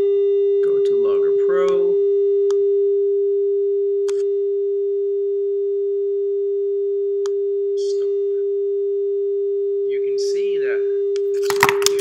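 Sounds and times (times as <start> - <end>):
steady sine tone: 0.0 - 12.0.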